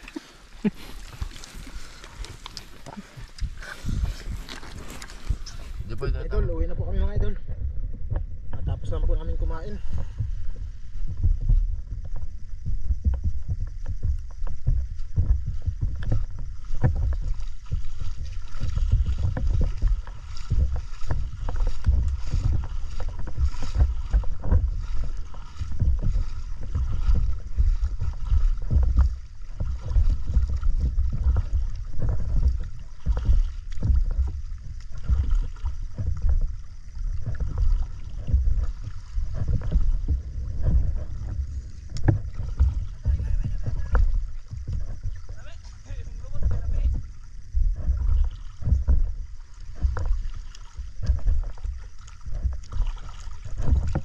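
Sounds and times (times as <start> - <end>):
seawater sloshing and splashing: 0.0 - 54.0.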